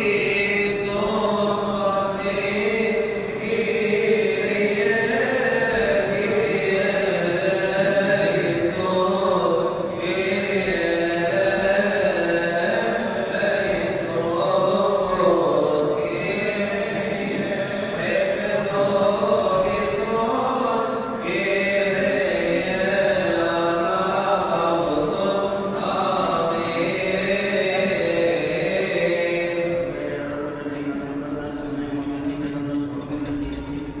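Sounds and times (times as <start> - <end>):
priest chanting a hymn: 0.0 - 34.0.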